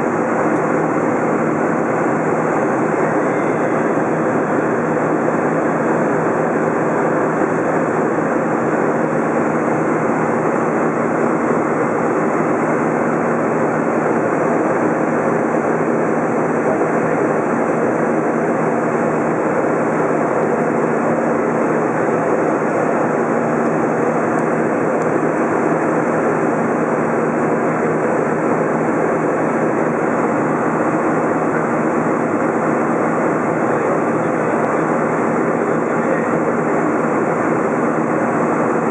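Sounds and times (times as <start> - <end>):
airplane cabin jet engine rush: 0.0 - 38.9.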